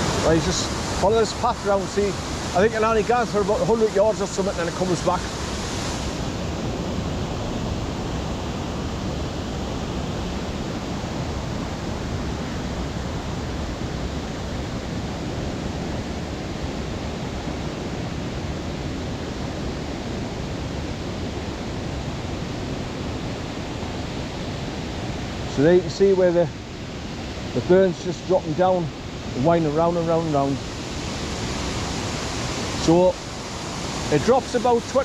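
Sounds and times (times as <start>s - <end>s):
waterfall rushing over rocks: 0.0s - 35.0s.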